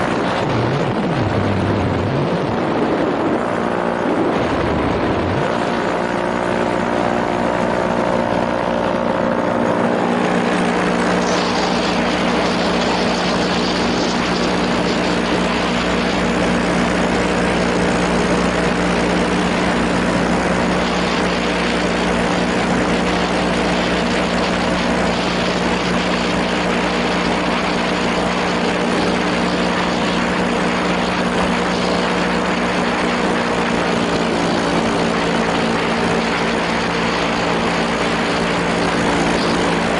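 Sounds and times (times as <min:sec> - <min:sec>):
heavy wind noise: 0:00.0 - 0:39.9
small propeller engine running: 0:00.0 - 0:39.9.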